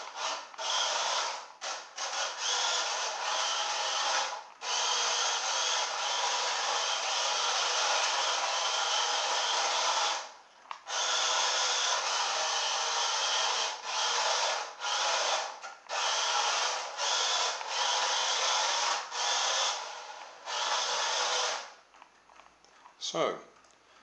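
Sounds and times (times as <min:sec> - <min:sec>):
toy car electric motor whirring: 0:00.0 - 0:10.3, 0:10.9 - 0:21.8.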